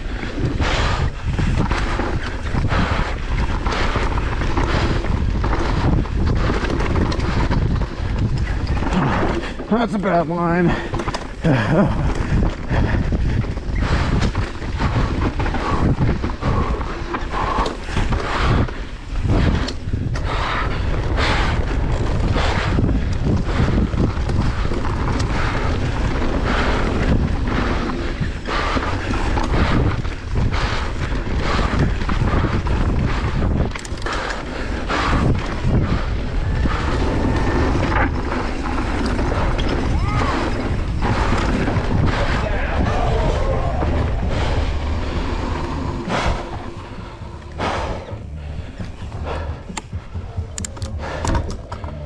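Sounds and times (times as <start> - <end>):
bike knocking and rattling: 0.0 - 52.0
tyres on dirt: 0.0 - 52.0
wind buffeting microphone: 0.0 - 52.0.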